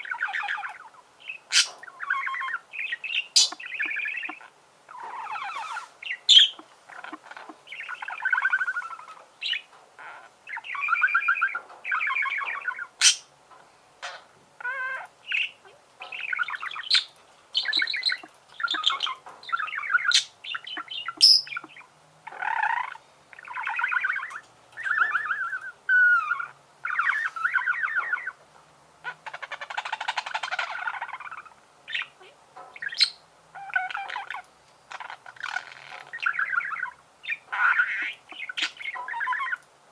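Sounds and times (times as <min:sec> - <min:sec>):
budgerigars warbling: 0:00.0 - 0:13.3, 0:14.0 - 0:28.4, 0:29.0 - 0:39.6.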